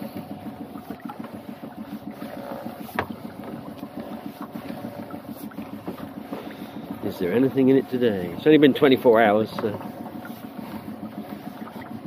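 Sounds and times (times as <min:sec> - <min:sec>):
low pulsing engine: 0:00.0 - 0:12.0
water lapping at hull: 0:00.0 - 0:12.0.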